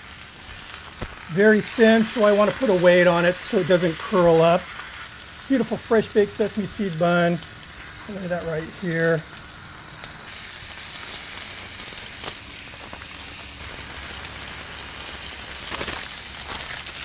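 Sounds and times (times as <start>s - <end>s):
meat sizzling on a griddle: 0.0s - 17.0s.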